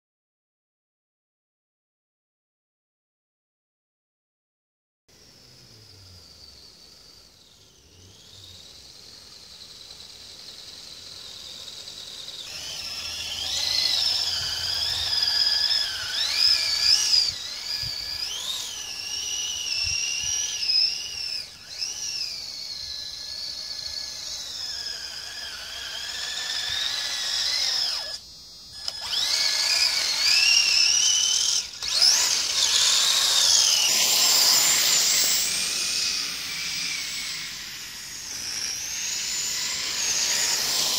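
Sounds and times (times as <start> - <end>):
electric motors whining: 5.1 - 40.9.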